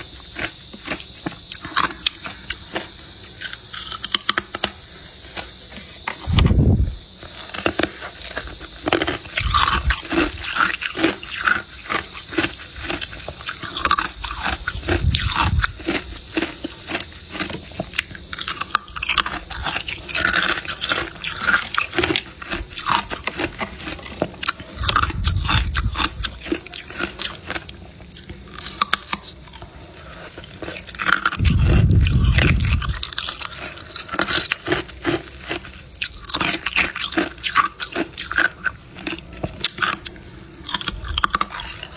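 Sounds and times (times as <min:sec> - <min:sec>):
ice crunching while chewed: 0:00.0 - 0:41.9.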